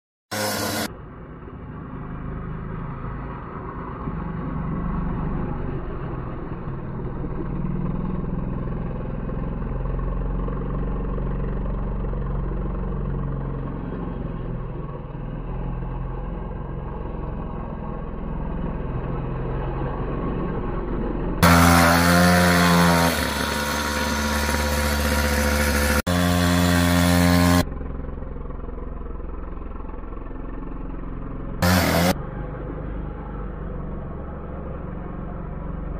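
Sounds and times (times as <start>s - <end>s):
quad engine revving: 0.3s - 0.9s, 2.6s - 35.9s.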